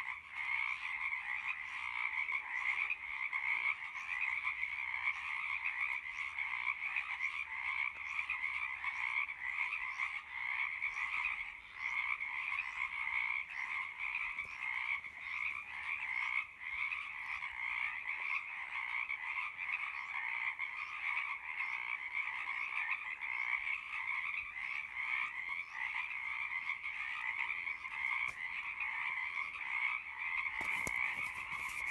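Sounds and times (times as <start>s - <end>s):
frogs chorus ribbit calls: 0.0s - 31.9s.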